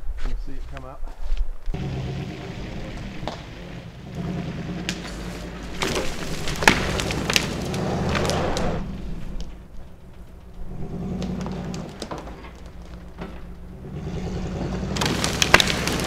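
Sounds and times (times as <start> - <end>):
truck engine under load: 1.7 - 16.0
branches snapping: 1.8 - 16.0.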